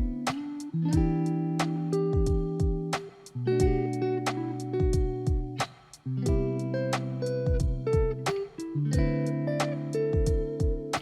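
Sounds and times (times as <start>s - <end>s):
guitar with held notes: 0.0s - 11.0s
steady drum beat: 0.0s - 11.0s.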